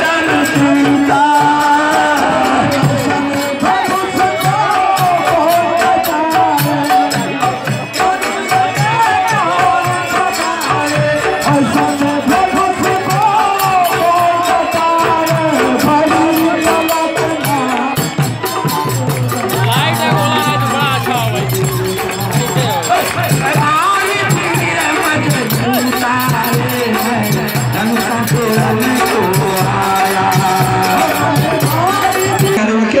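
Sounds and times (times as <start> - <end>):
drum beat: 0.0 - 32.6
jingling hand percussion: 0.0 - 33.0
man singing into a microphone: 0.0 - 33.0.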